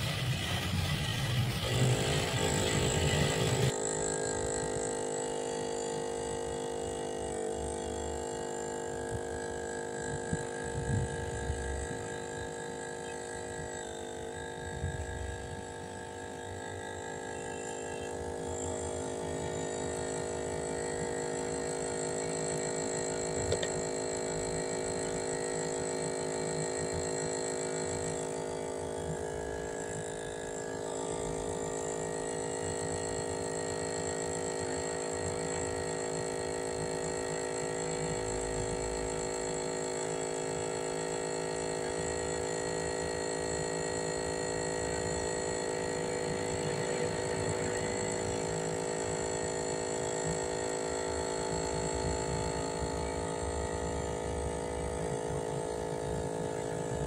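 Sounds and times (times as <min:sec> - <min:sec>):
toy boat motors whining: 0:00.0 - 0:57.0.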